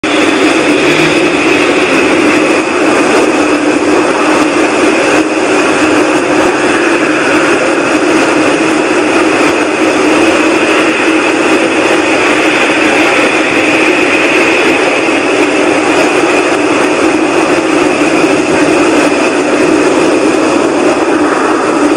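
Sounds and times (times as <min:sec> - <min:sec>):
droning noise in sky: 0:00.0 - 0:21.9.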